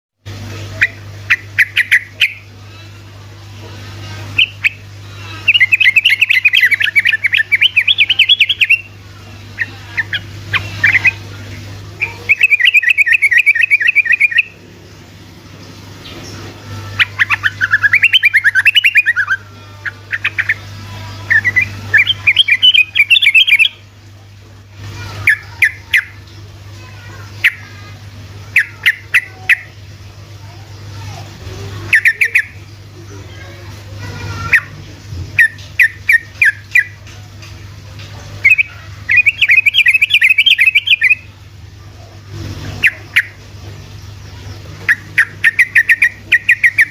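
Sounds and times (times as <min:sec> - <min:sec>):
bulbul singing rolling song: 0:00.2 - 0:46.9.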